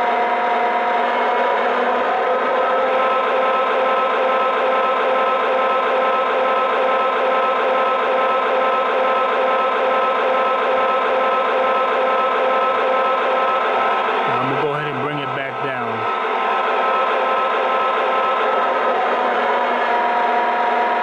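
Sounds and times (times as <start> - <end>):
model locomotive engine sound: 0.0 - 21.0.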